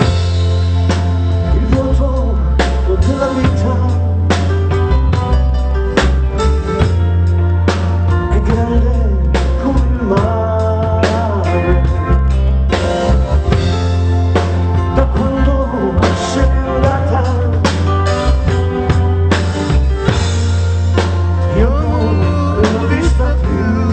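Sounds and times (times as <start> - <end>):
drum kit beat: 0.0 - 23.9
guitar: 0.0 - 23.9
heavy sustained bass notes: 0.0 - 23.9
live pop band playing: 0.0 - 23.9.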